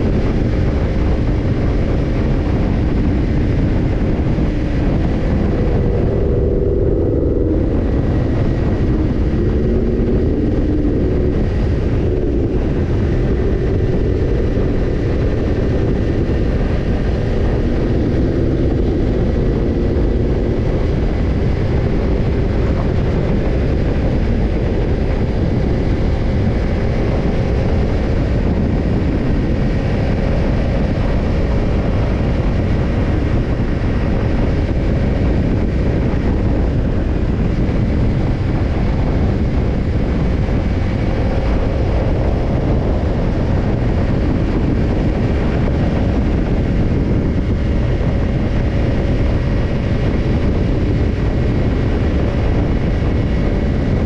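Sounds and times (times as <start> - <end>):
motorcycle engine revving: 0.0 - 54.0
wind rumble: 0.0 - 54.0.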